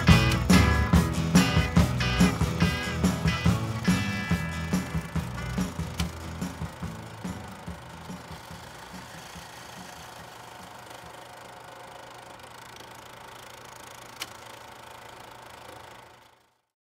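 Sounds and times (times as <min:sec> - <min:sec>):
film projector whirring: 0:00.0 - 0:16.7.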